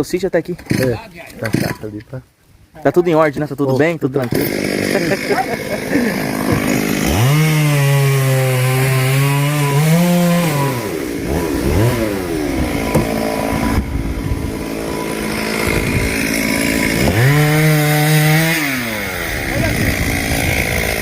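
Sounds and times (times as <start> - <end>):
chainsaw revving: 0.7 - 1.9, 4.2 - 21.0.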